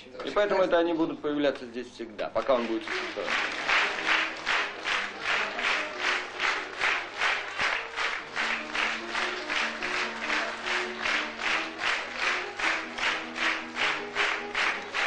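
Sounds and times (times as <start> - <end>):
faint music: 0.0 - 15.0
audience clapping in rhythm: 1.5 - 15.0.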